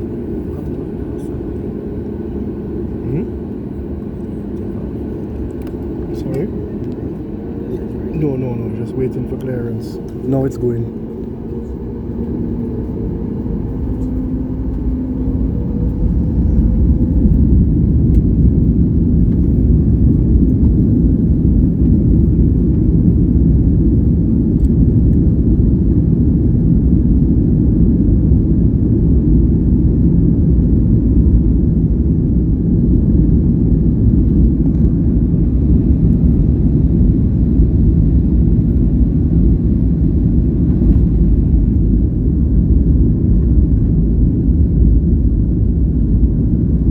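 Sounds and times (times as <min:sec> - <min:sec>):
jet engines roaring at takeoff: 0:00.0 - 0:46.9.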